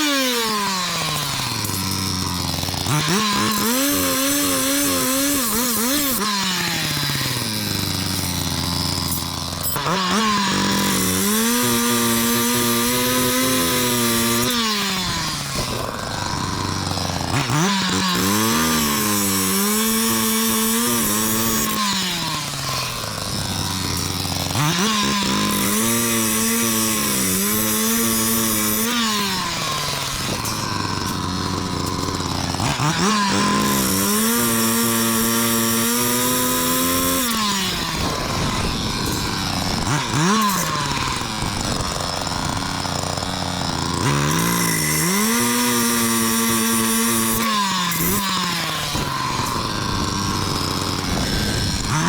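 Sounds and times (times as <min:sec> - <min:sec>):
small gas engine revving: 0:00.0 - 0:52.0.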